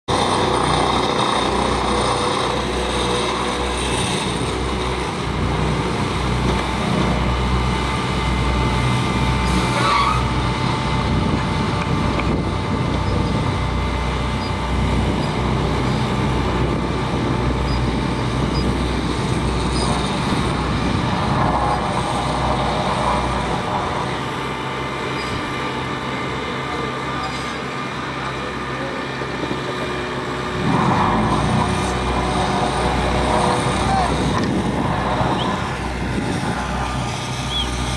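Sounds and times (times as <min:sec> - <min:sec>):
paver engine rumbling: 0:00.1 - 0:37.9.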